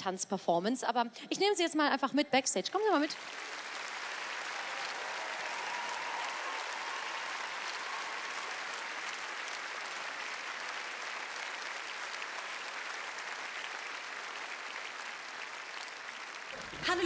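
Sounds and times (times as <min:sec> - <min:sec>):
audience applauding: 0:02.8 - 0:17.0.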